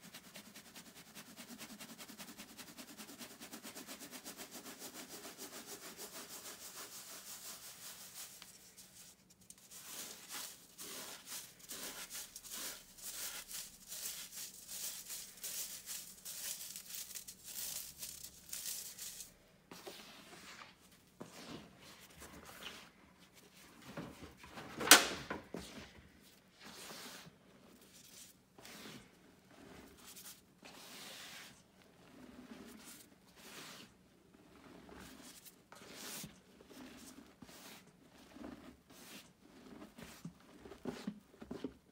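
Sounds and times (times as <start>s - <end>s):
chalk rubbed through metal sieve: 0.0s - 22.8s, 26.6s - 40.2s.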